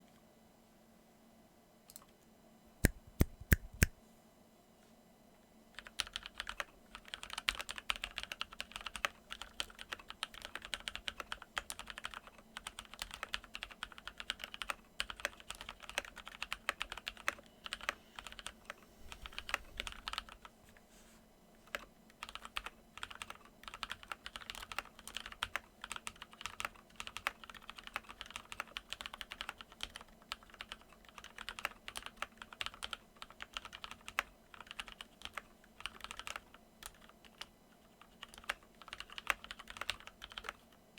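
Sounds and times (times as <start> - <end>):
mechanical keyboard typing: 5.8 - 20.5, 21.6 - 40.8.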